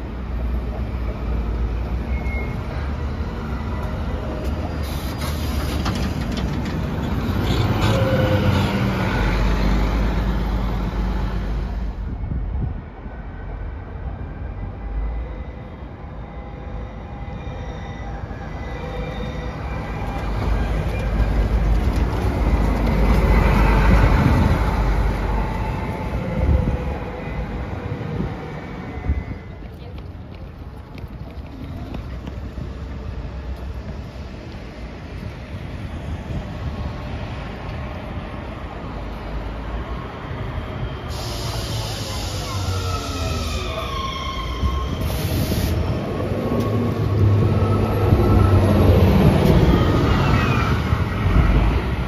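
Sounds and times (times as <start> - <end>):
electric tram whine: 0.0 - 52.0.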